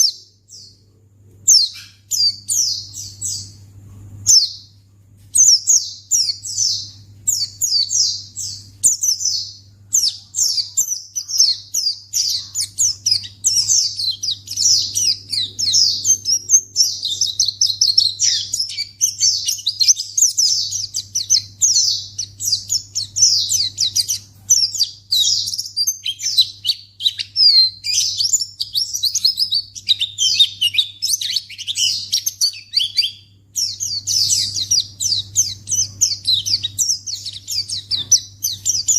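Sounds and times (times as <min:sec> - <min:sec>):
bird twittering song: 0:00.0 - 0:38.9
faint low hum: 0:00.0 - 0:38.9.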